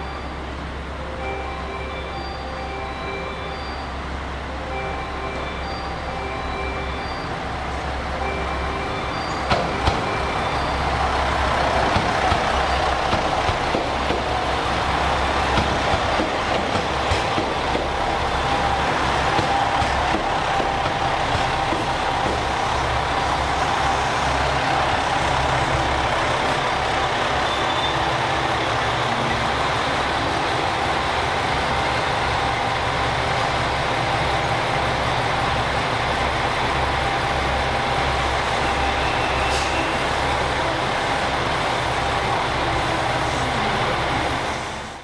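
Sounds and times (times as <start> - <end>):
diesel train engine throbbing: 0.0 - 45.0.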